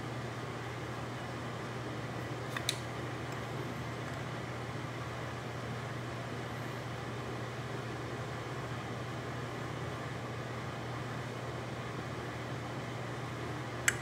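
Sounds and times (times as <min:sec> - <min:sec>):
fan-like room hum and hiss: 0:00.0 - 0:14.0.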